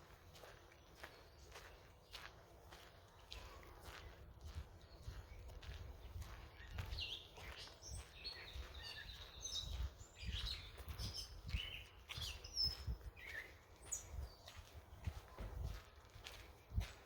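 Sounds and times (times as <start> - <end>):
footsteps on forest trail: 0.0 - 17.0
songbirds chirping: 0.0 - 17.0.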